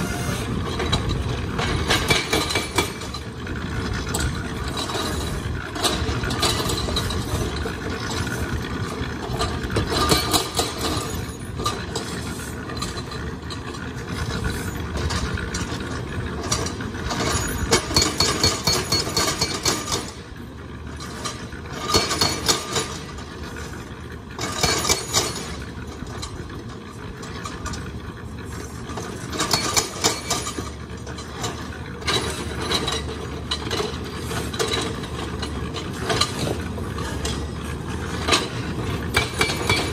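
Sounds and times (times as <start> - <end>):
hydraulic breaker hammering rock: 0.0 - 12.2, 14.0 - 20.3, 21.0 - 23.6, 24.4 - 26.2, 29.1 - 39.9
construction machine engines running: 0.0 - 39.9.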